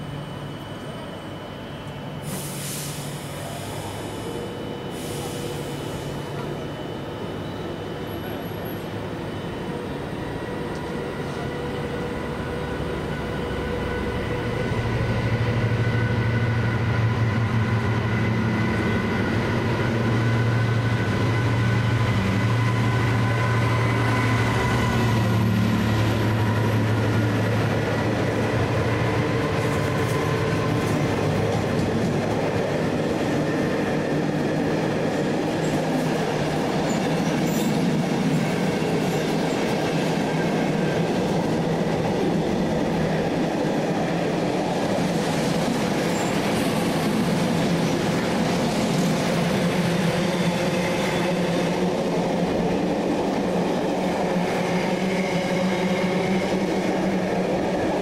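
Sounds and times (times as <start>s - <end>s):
train passing: 0.0s - 58.0s.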